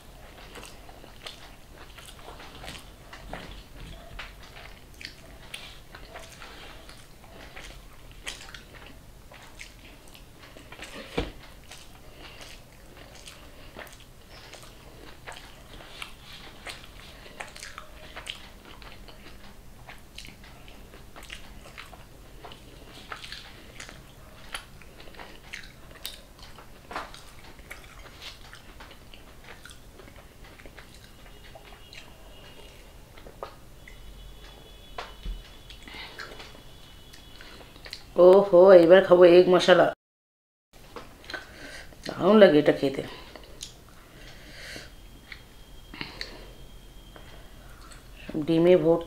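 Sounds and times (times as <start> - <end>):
person chewing wetly: 0.0 - 38.2, 41.2 - 42.2, 43.1 - 48.3.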